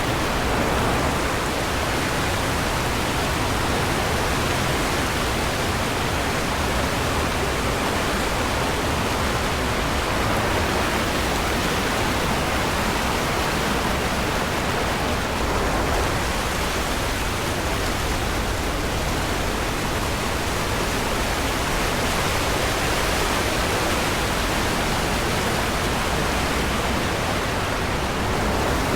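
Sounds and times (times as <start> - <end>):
water rushing over rocks: 0.0 - 28.9.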